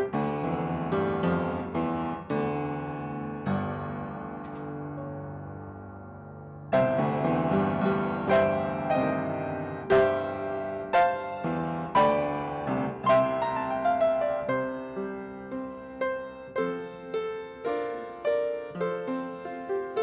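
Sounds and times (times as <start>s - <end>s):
piano playing chords: 0.0s - 20.0s.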